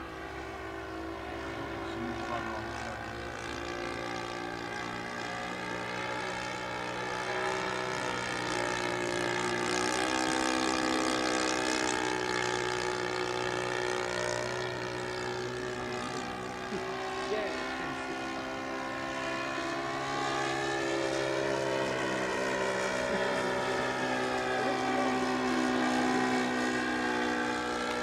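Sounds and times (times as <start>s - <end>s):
model plane motor droning: 0.0s - 28.0s.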